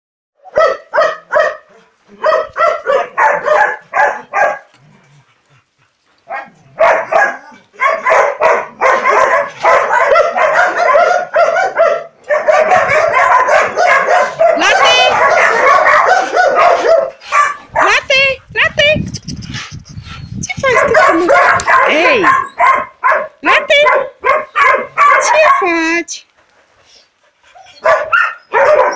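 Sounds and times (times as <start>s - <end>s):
dogs barking: 0.4s - 4.8s, 6.2s - 18.9s, 20.6s - 25.8s, 27.5s - 28.9s.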